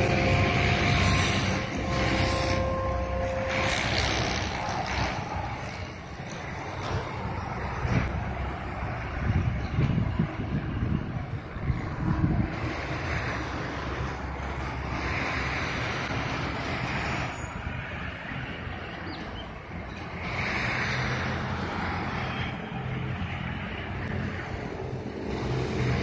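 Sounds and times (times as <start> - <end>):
diesel engine hum: 0.0 - 26.0
train rumbling on rails: 0.0 - 26.0.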